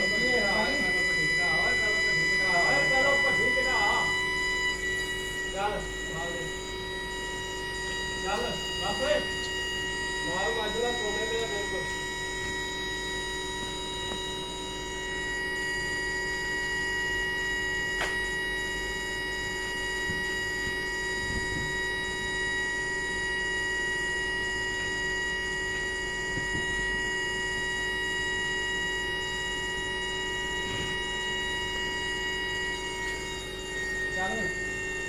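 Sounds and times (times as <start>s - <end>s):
furnace electrical whine: 0.0s - 35.0s.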